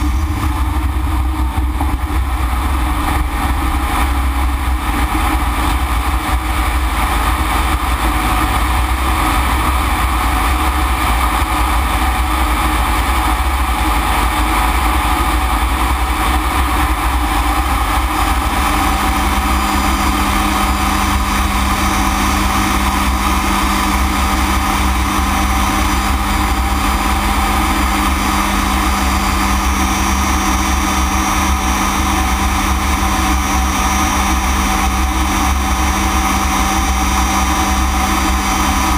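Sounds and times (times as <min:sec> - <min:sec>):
jet engine rushing: 0:00.0 - 0:38.9
steady low tone: 0:00.0 - 0:38.9.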